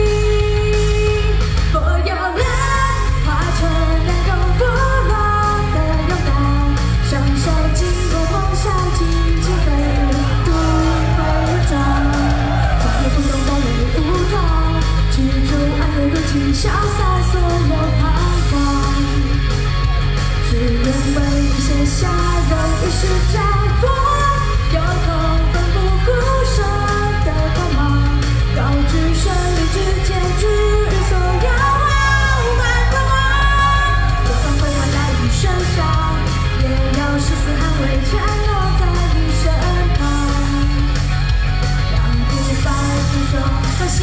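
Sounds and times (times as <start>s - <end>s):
woman singing into a microphone: 0.0s - 19.5s, 20.4s - 41.0s, 41.9s - 44.0s
amplified pop backing music: 0.0s - 44.0s.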